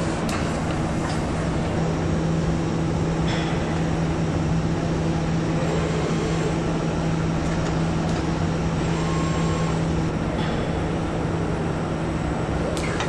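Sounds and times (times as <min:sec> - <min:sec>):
machinery hum and whir: 0:00.0 - 0:13.0.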